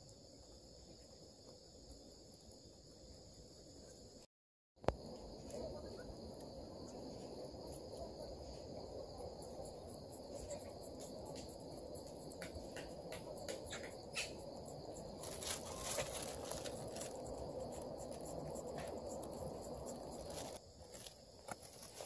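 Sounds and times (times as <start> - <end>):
crickets and insects trilling: 0.0 - 22.0.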